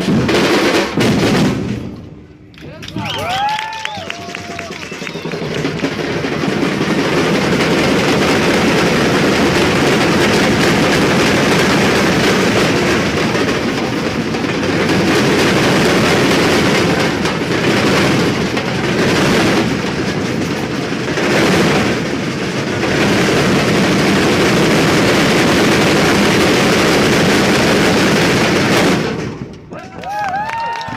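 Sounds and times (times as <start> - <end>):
large ensemble of drums playing: 0.0 - 2.0, 2.9 - 29.2.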